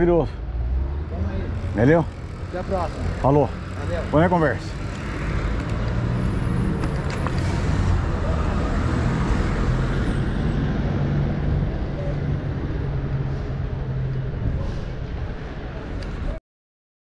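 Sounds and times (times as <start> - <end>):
street traffic noise: 0.0 - 16.4.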